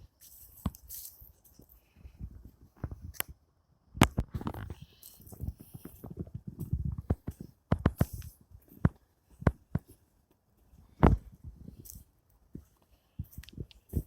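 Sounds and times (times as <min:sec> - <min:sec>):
crunching footsteps: 0:00.0 - 0:03.3, 0:04.1 - 0:14.0.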